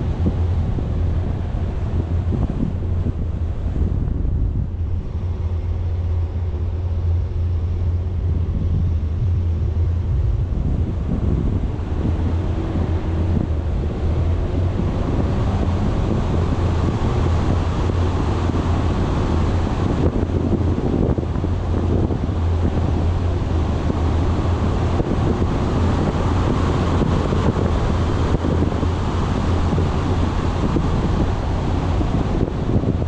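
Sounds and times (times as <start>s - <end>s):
faint humming tones: 0.0s - 33.0s
low engine drone: 0.0s - 33.0s
wind buffeting the microphone: 0.0s - 33.0s.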